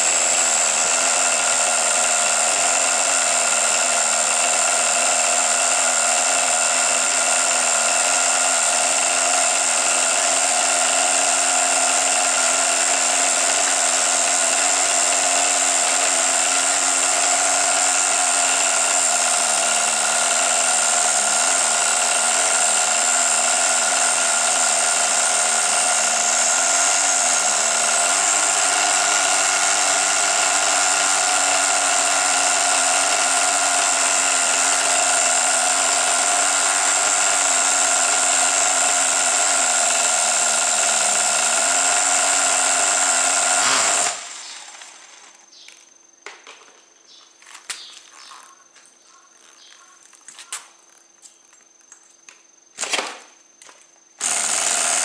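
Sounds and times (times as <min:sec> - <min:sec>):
model car engine buzzing: 0:00.0 - 0:45.5, 0:54.2 - 0:55.0.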